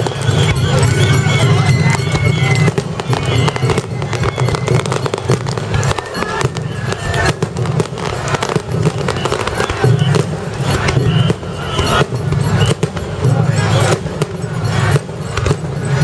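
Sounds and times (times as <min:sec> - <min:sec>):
fireworks shells bursting: 0:00.0 - 0:16.0.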